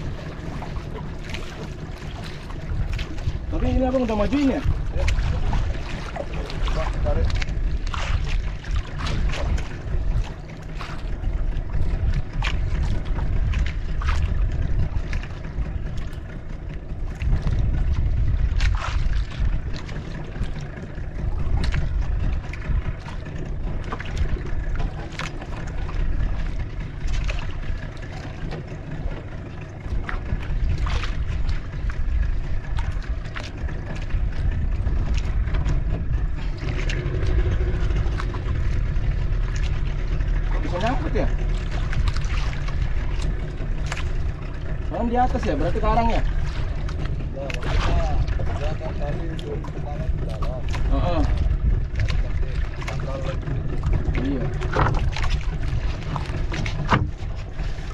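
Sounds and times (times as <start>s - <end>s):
low rumbling wind: 0.0s - 57.9s
water noise: 0.0s - 57.9s.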